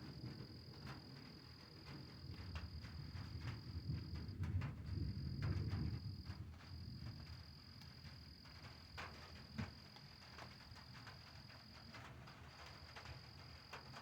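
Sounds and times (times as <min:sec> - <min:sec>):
light rain drips: 0:00.0 - 0:14.0.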